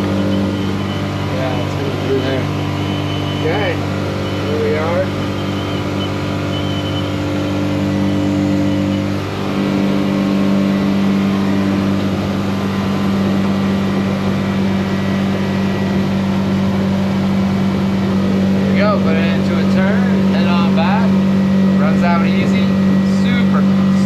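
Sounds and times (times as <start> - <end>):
outboard engine at high revs: 0.0 - 24.0.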